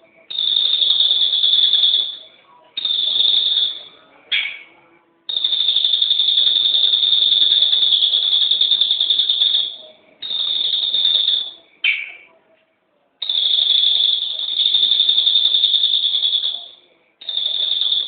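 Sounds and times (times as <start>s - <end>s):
songbird high-pitched trills: 0.0s - 12.3s, 13.2s - 18.0s.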